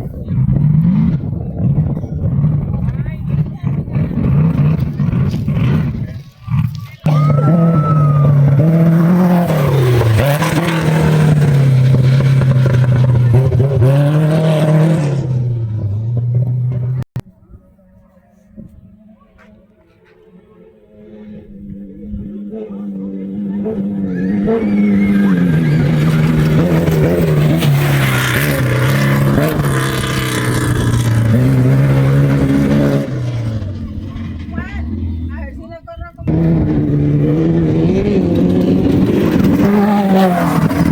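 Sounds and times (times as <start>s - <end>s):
race vehicle engine at high revs: 0.0s - 17.1s, 20.0s - 40.9s.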